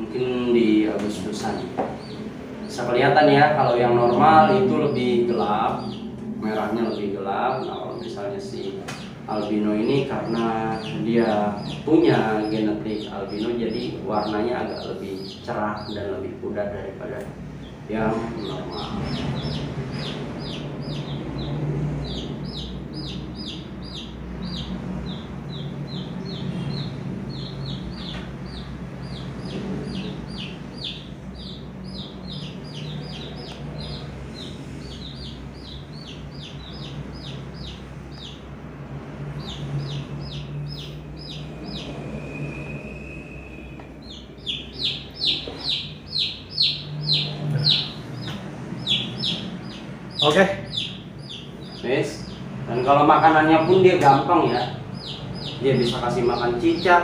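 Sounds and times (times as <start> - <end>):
chicks peeping: 0.0 - 42.1, 43.6 - 57.0
low steady hum: 0.0 - 57.0.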